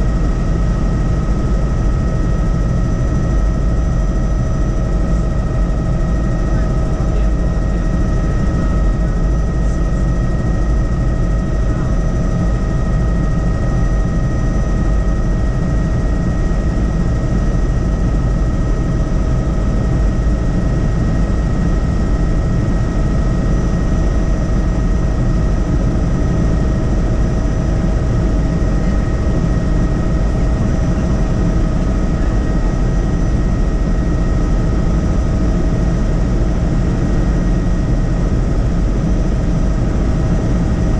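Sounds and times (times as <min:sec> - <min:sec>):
helicopter rotor and engine rumble: 0:00.0 - 0:40.9
high turbine whine: 0:00.0 - 0:40.9.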